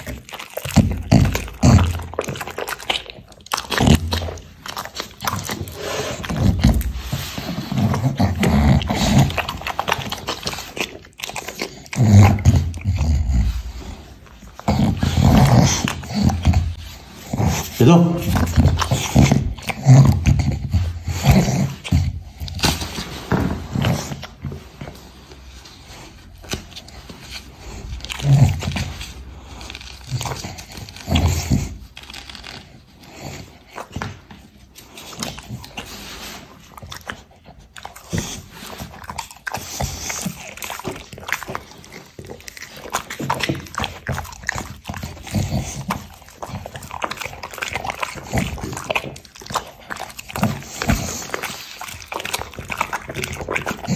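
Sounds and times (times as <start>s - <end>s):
dog licking and chewing: 0.0s - 53.9s.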